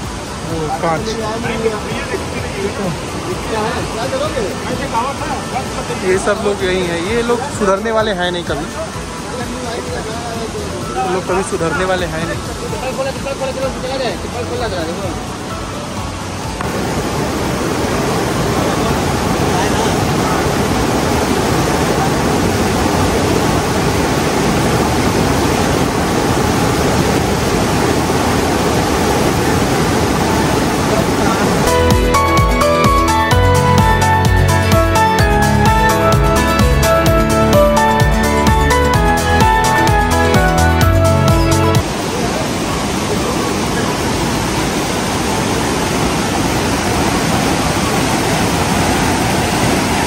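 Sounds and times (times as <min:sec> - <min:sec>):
river rushing over rocks: 0:00.0 - 0:50.0.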